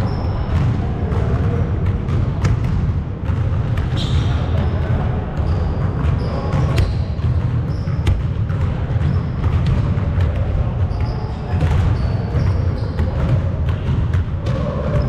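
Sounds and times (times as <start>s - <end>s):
basketball bouncing on wooden floor: 0.0s - 15.0s.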